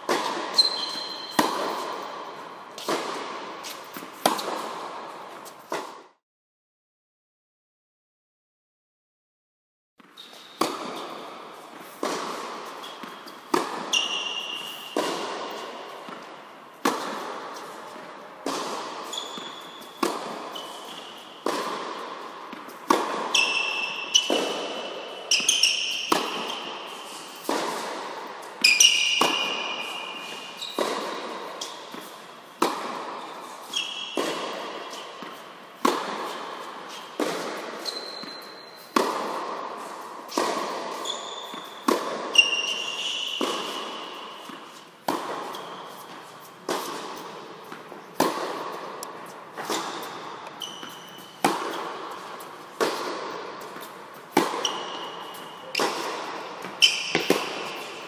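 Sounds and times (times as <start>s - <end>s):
tennis ball struck by racket: 0.0s - 6.1s, 10.0s - 58.0s
tennis shoes squeaking on court: 0.1s - 6.0s, 10.0s - 58.0s.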